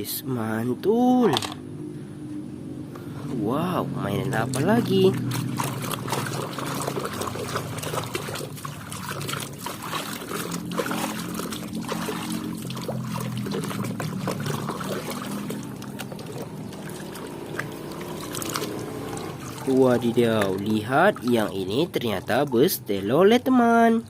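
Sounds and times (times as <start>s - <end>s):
water trickling and splashing: 3.9s - 24.0s.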